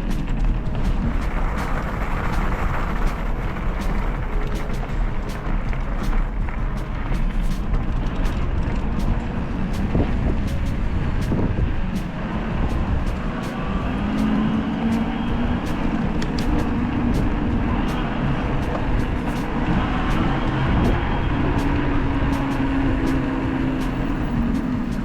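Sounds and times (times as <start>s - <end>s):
bike riding rumble: 0.0s - 25.0s.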